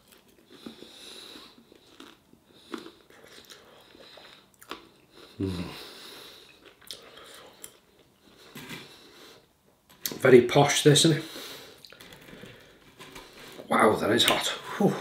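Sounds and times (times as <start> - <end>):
man chewing food: 0.0 - 10.1, 11.3 - 13.6.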